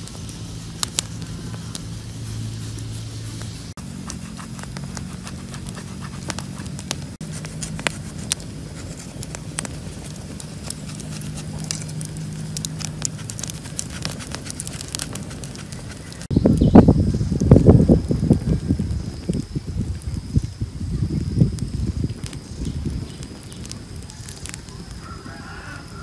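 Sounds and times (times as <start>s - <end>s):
loud crackling rustling: 0.0s - 26.0s.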